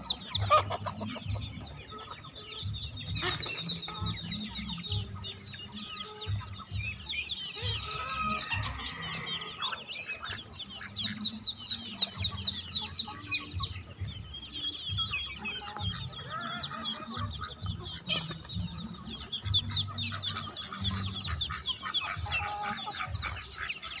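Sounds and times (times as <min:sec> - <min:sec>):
chickens clucking: 0:00.0 - 0:24.0
ducklings peeping: 0:00.0 - 0:24.0.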